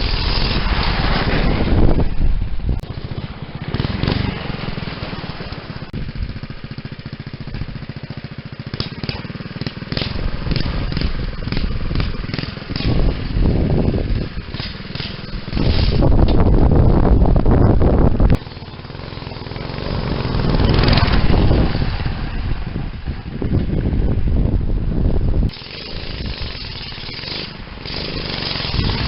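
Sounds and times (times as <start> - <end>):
mini bike engine running: 0.0 - 2.2, 2.8 - 29.0.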